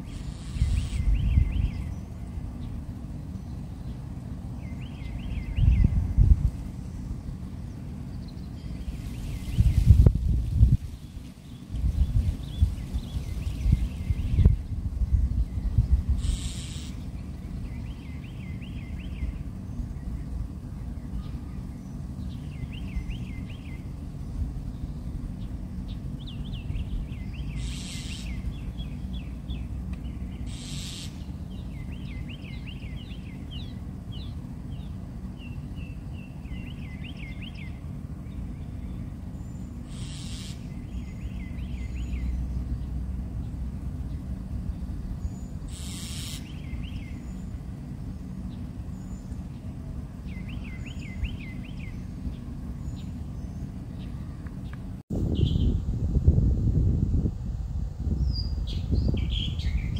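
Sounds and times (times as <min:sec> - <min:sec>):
songbird singing: 0:00.0 - 0:56.0, 0:56.8 - 0:59.9
low background rumble: 0:00.0 - 0:59.9.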